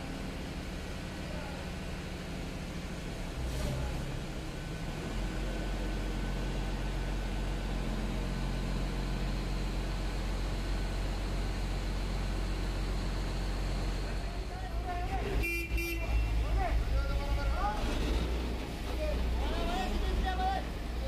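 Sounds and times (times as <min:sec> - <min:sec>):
crane diesel engine running: 0:00.0 - 0:21.0.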